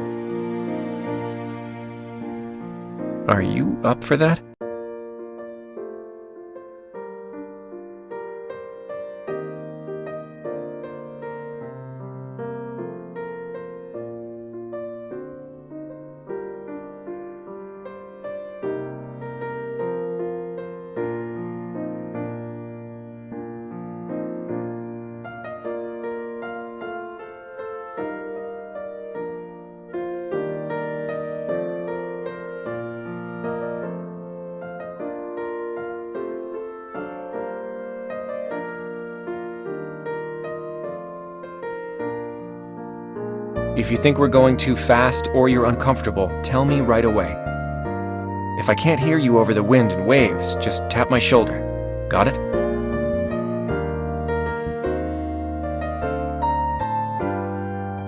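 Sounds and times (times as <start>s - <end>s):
soft piano music: 0.0s - 58.0s.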